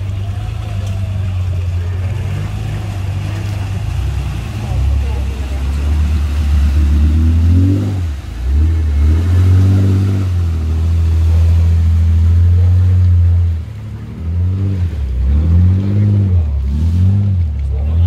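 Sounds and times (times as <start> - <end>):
engine revving hard: 1.8 - 13.4, 14.2 - 17.4.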